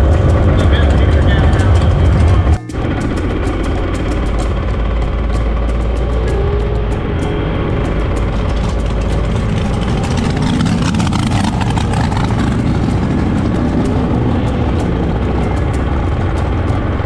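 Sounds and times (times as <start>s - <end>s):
racing car engines rumbling and revving: 0.0s - 17.0s.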